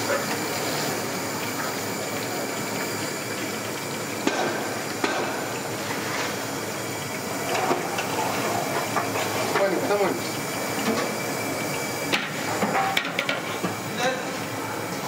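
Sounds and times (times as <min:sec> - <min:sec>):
meat deep-frying in hot oil: 0:00.0 - 0:15.0.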